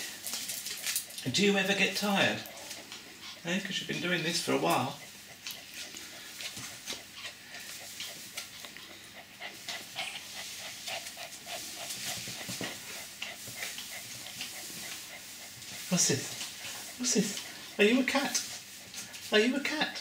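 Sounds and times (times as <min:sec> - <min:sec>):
puppy panting: 0:00.0 - 0:20.0.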